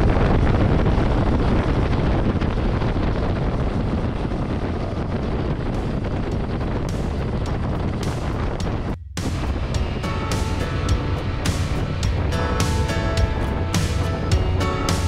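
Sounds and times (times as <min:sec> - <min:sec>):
wind rushing over microphone: 0:00.0 - 0:15.0
motorcycle engine: 0:02.5 - 0:15.0.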